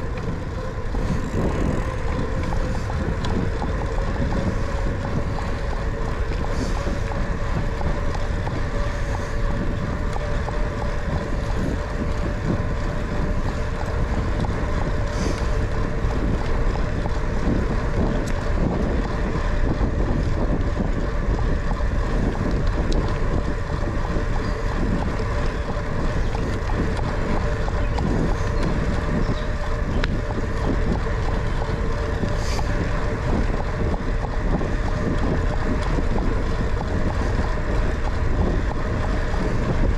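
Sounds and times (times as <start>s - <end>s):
bicycle tyres rolling on asphalt: 0.0s - 39.9s
steady hum: 0.0s - 39.9s
wind buffeting microphone: 0.0s - 39.9s.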